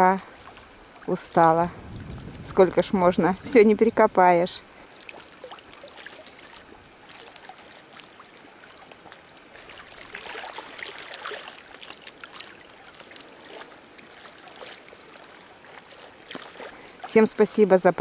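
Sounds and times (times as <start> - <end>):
small waves lapping against stones: 0.0 - 18.0.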